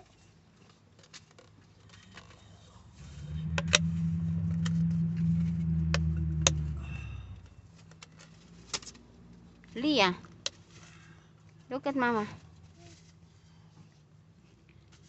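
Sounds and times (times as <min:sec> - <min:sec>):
low engine rumble: 0:01.8 - 0:15.0.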